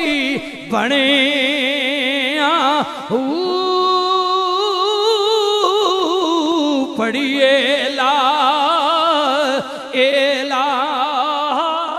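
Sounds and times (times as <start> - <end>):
man singing unaccompanied: 0.0 - 11.9.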